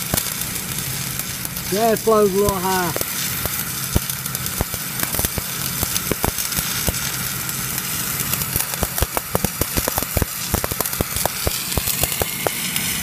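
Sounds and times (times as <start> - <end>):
low hum: 0.0 - 13.0
spatter pops and crackles: 0.0 - 13.0
welding arc sizzling: 0.0 - 13.0.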